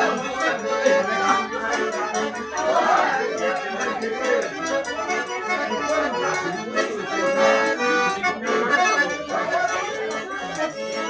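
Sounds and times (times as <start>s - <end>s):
accordion dance music: 0.0s - 11.0s.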